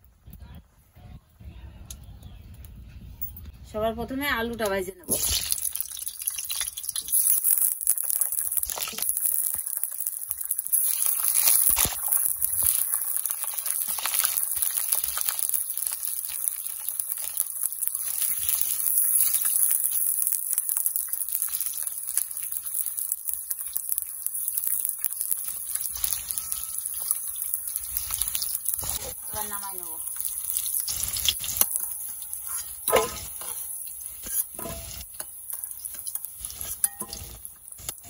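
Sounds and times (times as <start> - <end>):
potatoes sizzling in hot oil: 4.7 - 38.0
metal spatula stirring: 5.1 - 38.0.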